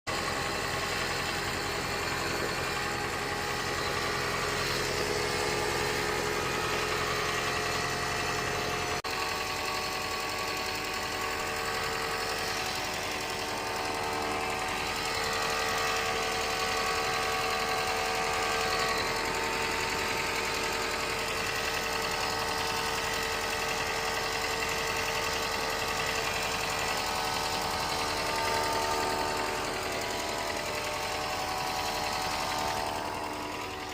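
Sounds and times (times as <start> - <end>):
car mechanical running noise: 0.1 - 33.9.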